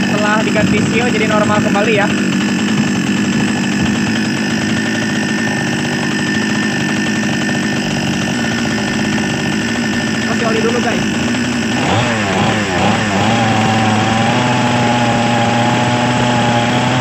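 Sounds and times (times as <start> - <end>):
chainsaw engine idling: 0.0 - 17.0.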